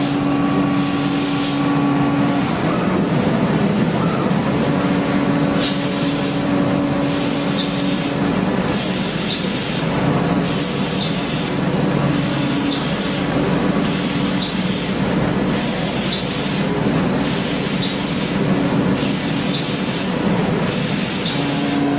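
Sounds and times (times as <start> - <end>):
machine hiss: 0.0 - 21.9
machine mechanical hum: 0.0 - 21.9.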